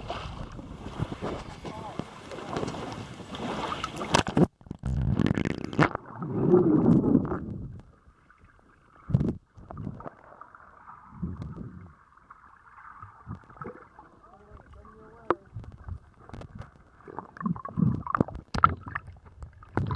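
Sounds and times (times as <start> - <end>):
muffled underwater sloshing: 0.0 - 4.5, 5.7 - 19.9
water splashing: 0.0 - 19.9.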